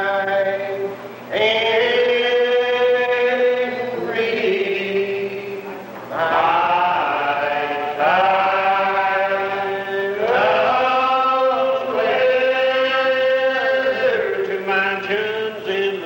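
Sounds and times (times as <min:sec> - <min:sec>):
unaccompanied hymn singing: 0:00.0 - 0:16.0.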